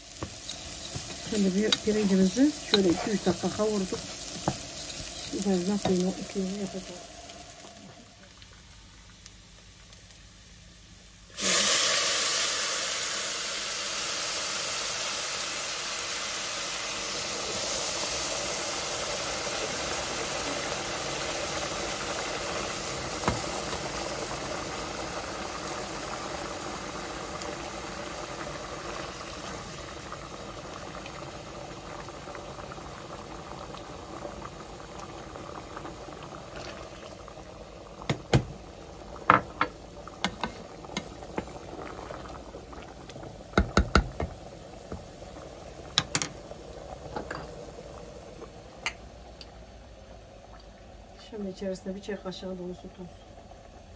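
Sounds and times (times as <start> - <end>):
water boiling hiss: 0.0 - 53.9
water sizzling in hot pot: 0.0 - 53.9.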